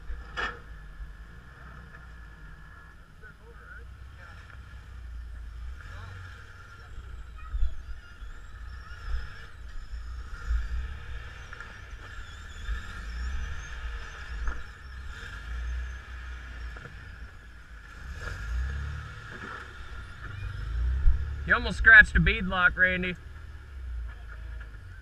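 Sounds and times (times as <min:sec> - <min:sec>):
off-road vehicle engine rumbling: 0:00.0 - 0:25.0.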